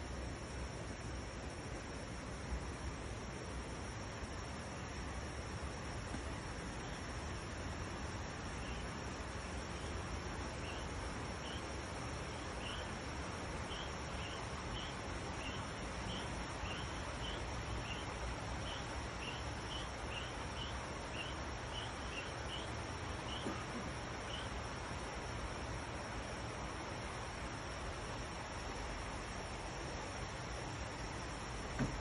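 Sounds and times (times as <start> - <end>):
background hiss: 0.0 - 32.0
cricket chirping: 0.0 - 32.0.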